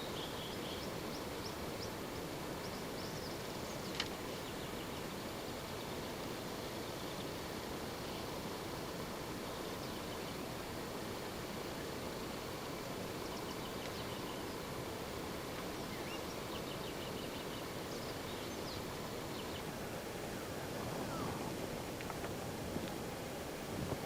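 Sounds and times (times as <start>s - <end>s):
faint bird chirps and trills: 0.0s - 10.8s, 11.7s - 22.3s
steady outdoor hiss: 0.0s - 24.0s.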